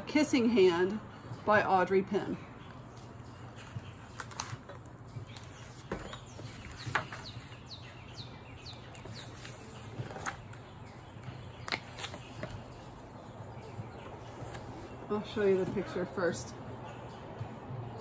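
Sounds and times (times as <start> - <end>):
bird chirping: 2.4 - 17.3.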